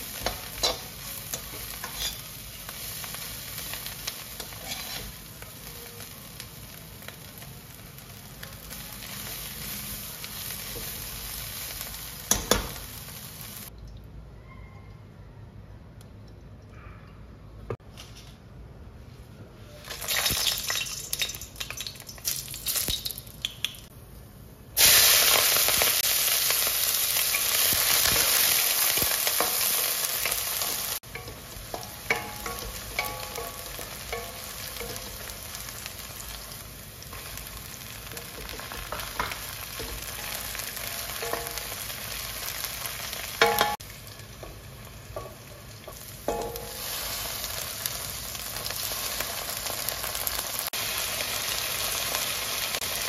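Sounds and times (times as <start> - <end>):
oil sizzling in a wok: 0.0 - 13.8, 19.8 - 24.0, 24.7 - 53.0.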